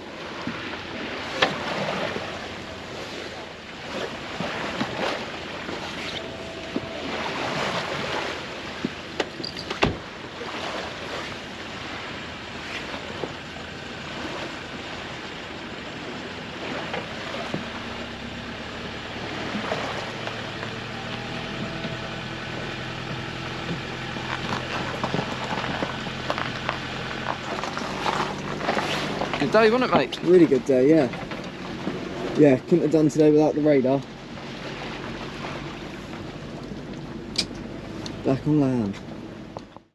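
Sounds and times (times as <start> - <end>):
low engine hum: 0.0 - 39.9
water lapping against boat hull: 0.0 - 39.9.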